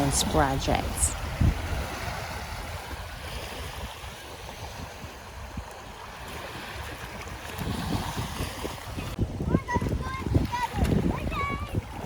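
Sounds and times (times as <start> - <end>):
shoreline water washing: 0.0 - 12.0
wind rumbling on microphone: 0.0 - 12.0.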